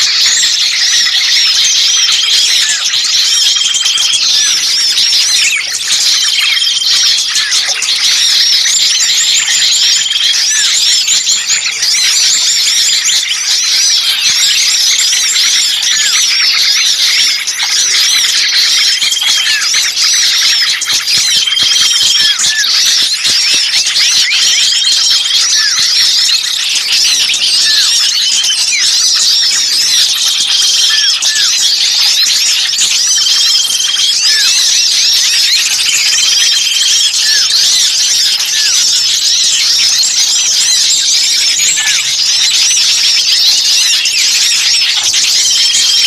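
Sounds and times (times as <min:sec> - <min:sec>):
small birds chirping chorus: 0:00.0 - 0:46.0.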